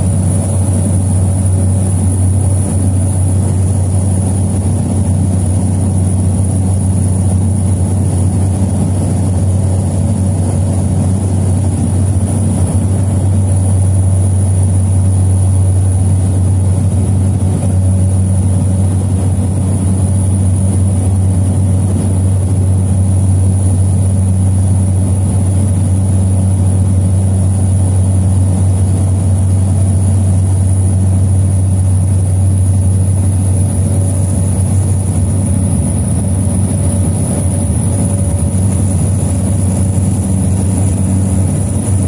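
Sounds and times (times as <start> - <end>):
constant high whine: 0.0 - 42.0
turboprop engine drone: 0.0 - 42.0.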